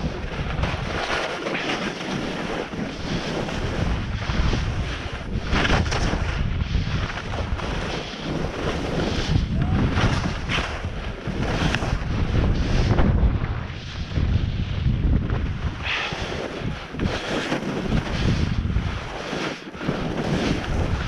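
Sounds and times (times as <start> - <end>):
skis scraping on hard snow: 0.0 - 21.0
wind buffeting microphone: 0.0 - 21.0.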